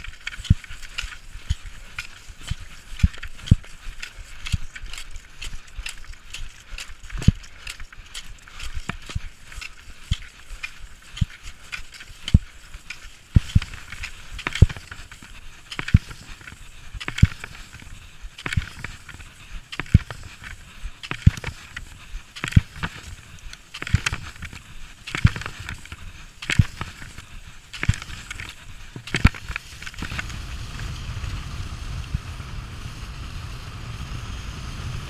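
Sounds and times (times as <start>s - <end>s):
ski poles thudding in snow: 0.0s - 30.5s
skis hissing on snow: 0.0s - 35.0s.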